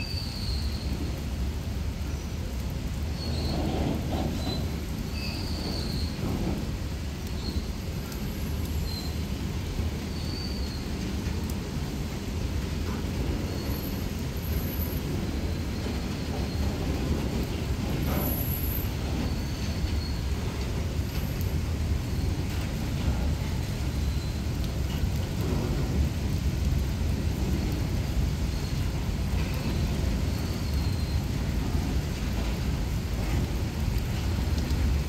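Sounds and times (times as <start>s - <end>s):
rain hissing: 0.0s - 35.0s
train wheels rumbling on track: 0.0s - 35.0s.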